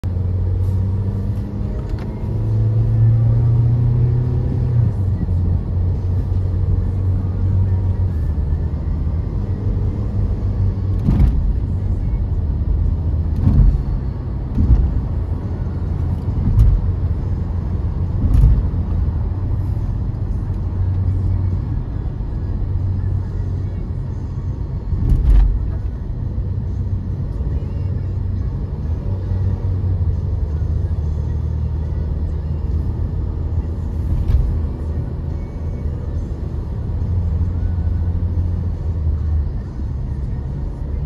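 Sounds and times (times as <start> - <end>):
car engine and tyre drone: 0.0 - 41.0.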